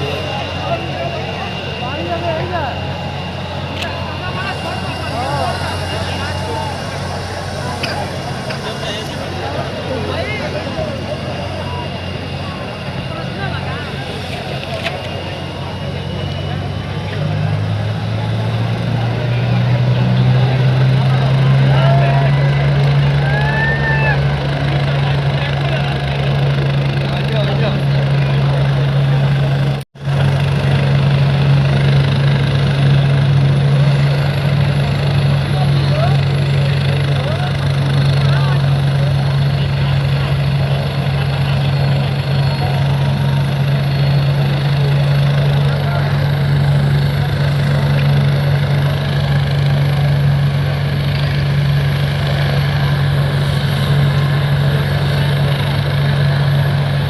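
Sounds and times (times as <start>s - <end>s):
helicopter engine hum: 0.0s - 57.0s
rushing noise: 0.0s - 57.0s.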